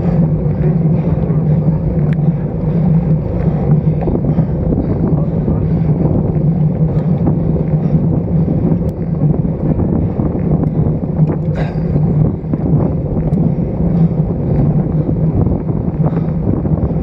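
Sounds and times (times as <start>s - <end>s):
low hum of riding noise: 0.0s - 17.0s
wind rushing over microphone: 0.0s - 17.0s.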